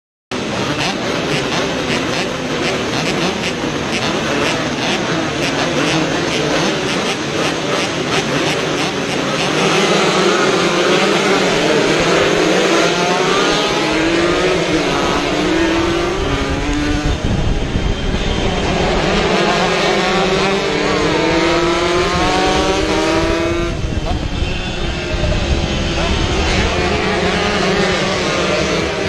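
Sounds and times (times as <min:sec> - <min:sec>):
two-stroke motorcycles accelerating: 0:00.3 - 0:29.0.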